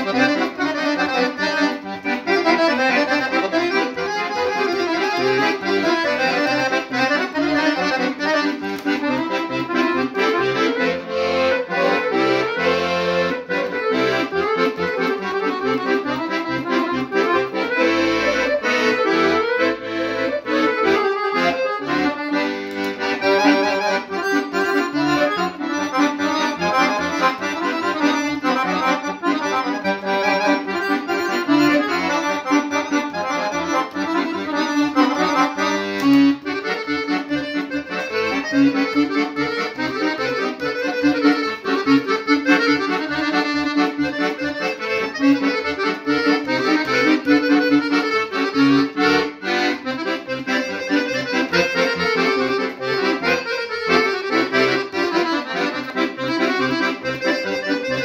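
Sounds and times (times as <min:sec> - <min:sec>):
accordion dance tune: 0:00.0 - 0:58.0.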